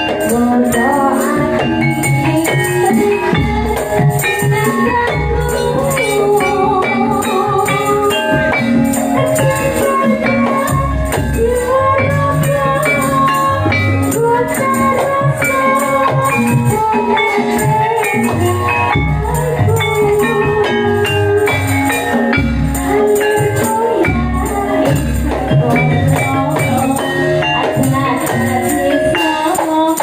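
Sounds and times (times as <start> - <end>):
folk band music: 0.0 - 30.0
jingling tambourine: 0.0 - 30.0.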